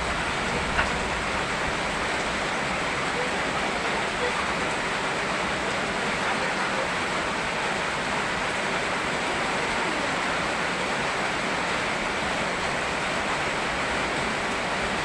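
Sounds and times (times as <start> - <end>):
flowing river: 0.0 - 15.0
rain: 0.0 - 15.0.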